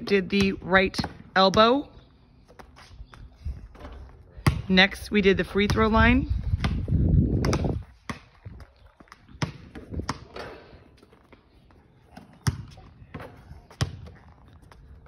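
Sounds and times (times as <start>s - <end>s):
basketball bouncing on asphalt: 0.0s - 15.0s.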